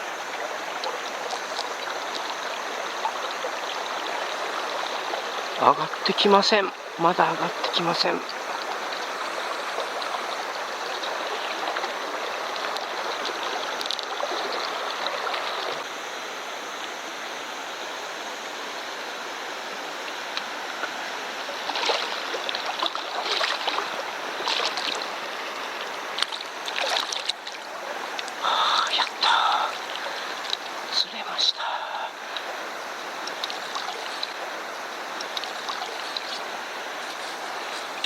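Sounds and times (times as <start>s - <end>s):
water splashes: 0.0s - 19.0s, 19.6s - 38.0s
river water rushing: 0.0s - 38.0s.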